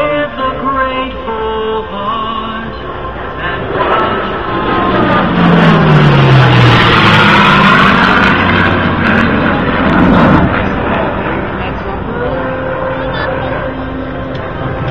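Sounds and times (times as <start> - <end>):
aircraft flying past: 2.7 - 14.9.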